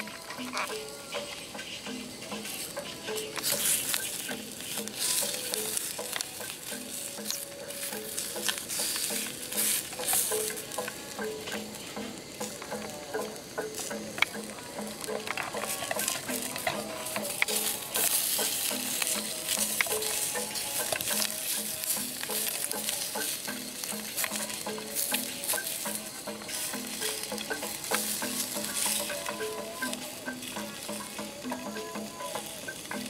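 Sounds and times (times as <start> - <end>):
chopsticks turning sausages: 0.0 - 33.0
sausages sizzling in frying pan: 0.0 - 33.0.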